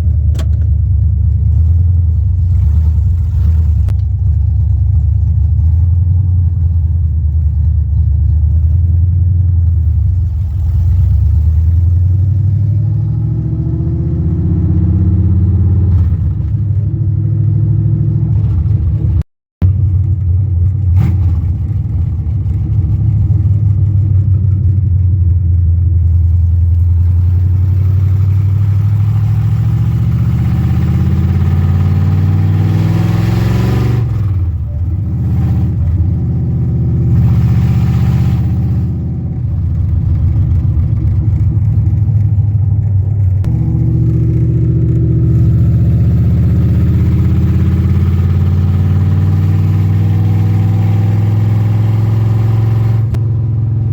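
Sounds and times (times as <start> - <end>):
car engine accelerating: 0.0 - 53.9.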